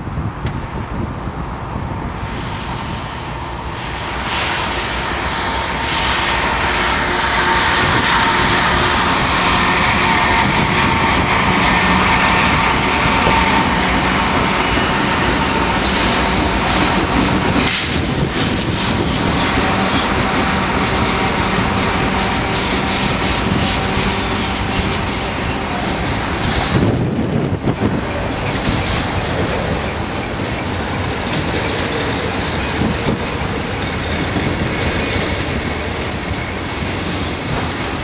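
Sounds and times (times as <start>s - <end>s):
train wheels on rails: 0.1s - 38.0s.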